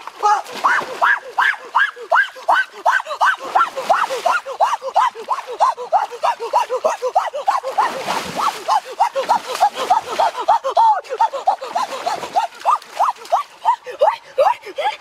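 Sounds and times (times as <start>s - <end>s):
water splash: 0.0s - 2.5s, 3.2s - 5.6s, 6.2s - 13.7s.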